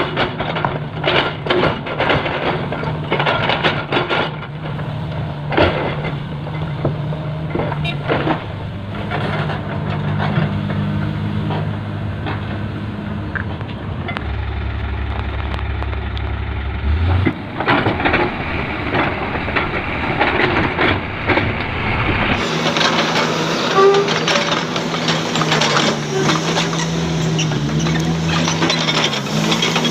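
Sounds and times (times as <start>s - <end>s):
knocking and clatter: 0.0s - 12.6s, 17.2s - 29.9s
heavy diesel machinery running: 0.0s - 29.9s.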